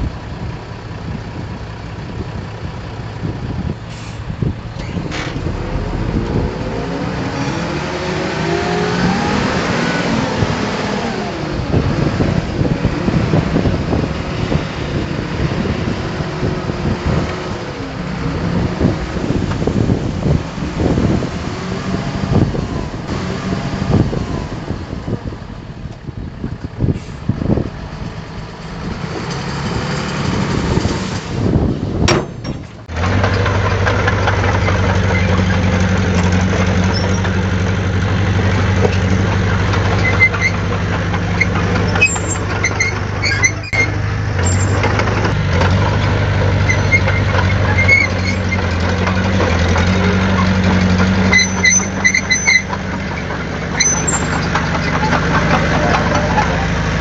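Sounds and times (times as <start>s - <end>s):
heavy diesel engine: 0.0s - 57.0s.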